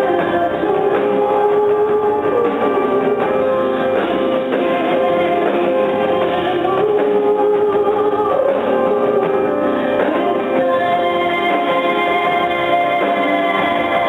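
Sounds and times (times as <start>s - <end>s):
guitar: 0.0s - 14.0s
rock band playing: 0.0s - 14.0s
woman singing: 0.0s - 14.0s.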